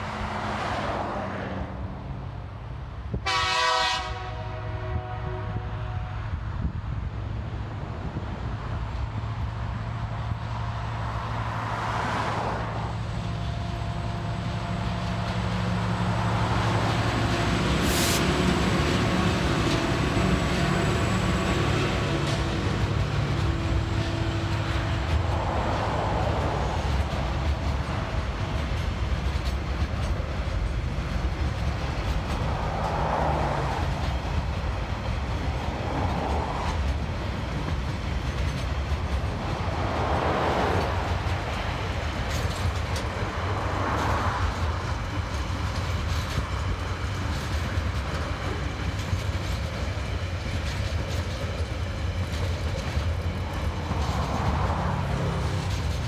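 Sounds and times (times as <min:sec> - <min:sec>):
freight wagons rolling past: 0:10.0 - 0:56.0.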